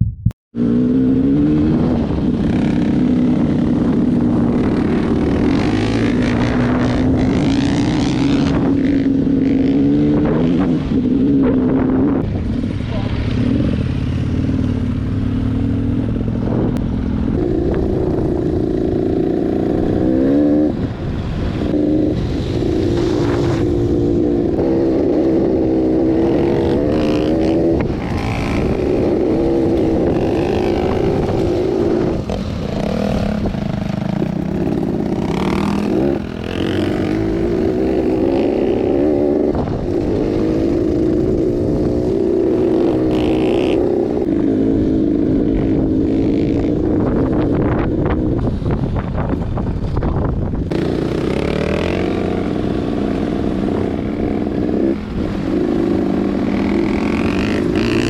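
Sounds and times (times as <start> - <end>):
motorcycle engine revving: 0.5 - 58.0.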